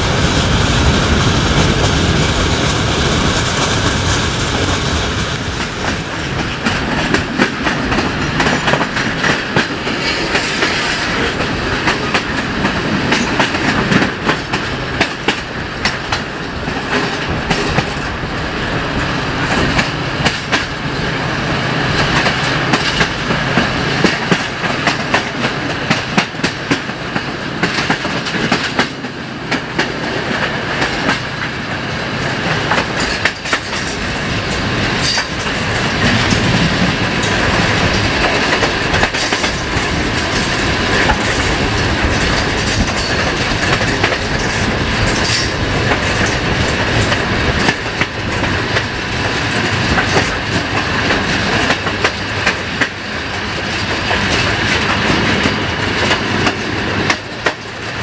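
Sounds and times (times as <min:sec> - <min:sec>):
train wheels clattering over rail joints: 0:00.8 - 0:21.1, 0:21.7 - 0:58.0.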